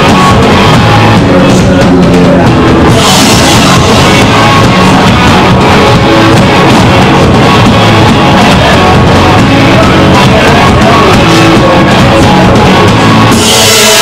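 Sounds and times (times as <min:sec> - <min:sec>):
drums: 0:00.0 - 0:14.0
electric guitar: 0:00.0 - 0:14.0.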